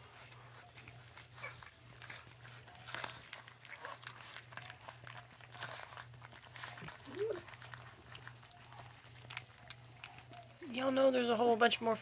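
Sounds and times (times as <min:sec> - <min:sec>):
puppies crunching dry kibble: 0:00.0 - 0:12.0.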